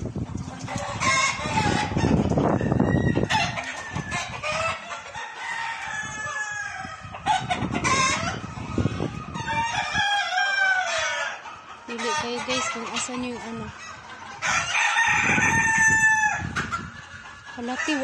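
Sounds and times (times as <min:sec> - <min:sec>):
chickens clucking: 0:00.0 - 0:18.0
roosters crowing: 0:00.7 - 0:18.0.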